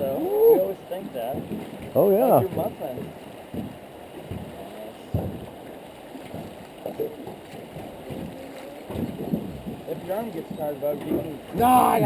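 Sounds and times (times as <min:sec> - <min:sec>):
water lapping against boat hull: 0:00.0 - 0:12.0
knock on boat: 0:01.2 - 0:12.0.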